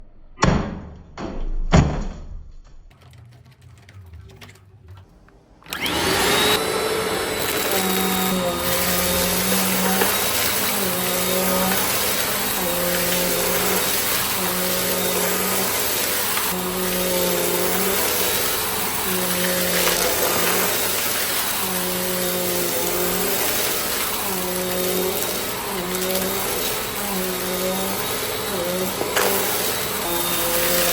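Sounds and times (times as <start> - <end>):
vacuum cleaner running: 5.0 - 30.9.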